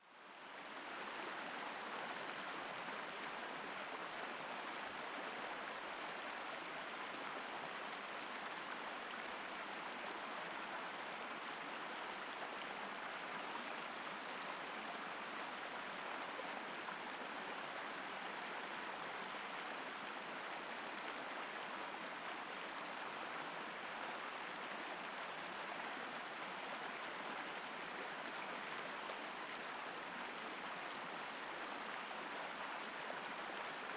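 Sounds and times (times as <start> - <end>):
stream water flowing: 0.2 - 33.9.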